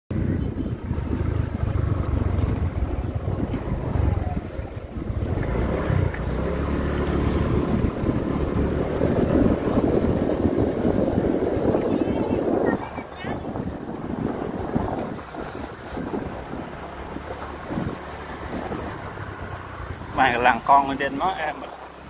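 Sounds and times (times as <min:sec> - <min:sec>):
wind on microphone: 0:00.1 - 0:21.1
scooter engine running: 0:00.2 - 0:22.0.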